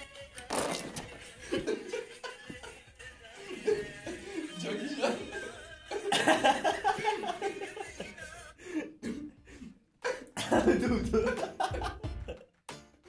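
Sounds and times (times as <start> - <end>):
men laughing hard: 1.1 - 12.5.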